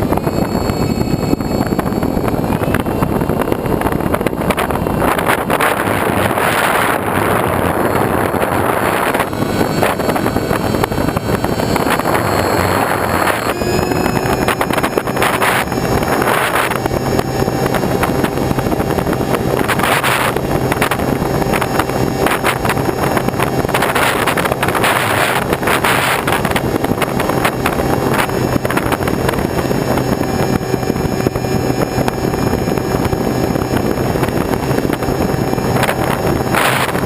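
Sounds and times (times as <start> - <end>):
faint engine hum: 0.0 - 37.0
wind buffeting microphone: 0.0 - 37.0.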